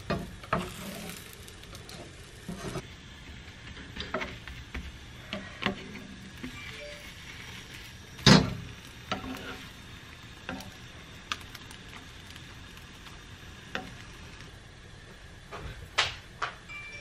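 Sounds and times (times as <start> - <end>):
butter sizzling in a frying pan: 0.0 - 15.5.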